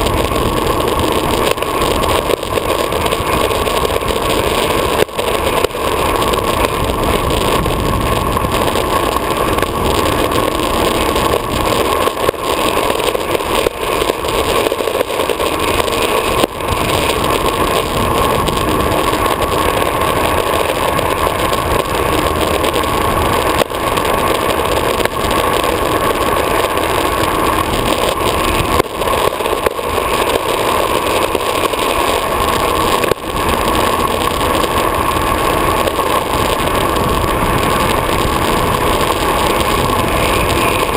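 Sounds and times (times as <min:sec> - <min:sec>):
skateboard wheels rolling on asphalt: 0:00.0 - 0:40.9
wind rushing on camera: 0:00.0 - 0:40.9.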